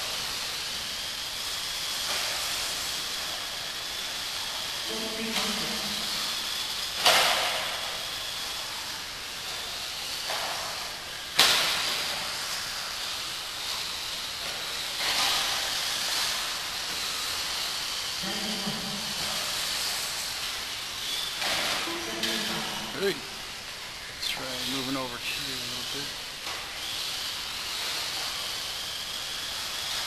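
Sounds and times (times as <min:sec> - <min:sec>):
toy cars running high hiss: 0:00.0 - 0:30.0.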